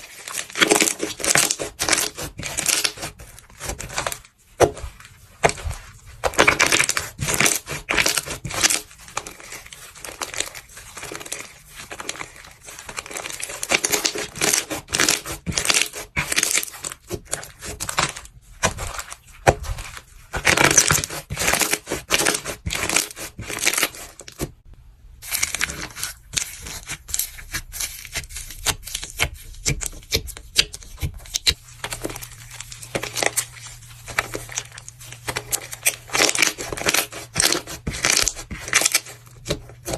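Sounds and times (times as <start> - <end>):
craft material crackling under hand: 0.0 - 24.6, 25.2 - 39.9.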